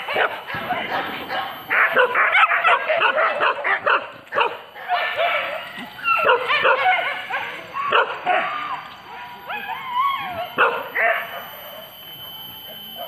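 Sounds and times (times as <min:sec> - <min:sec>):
dogs yelping: 0:00.0 - 0:13.0.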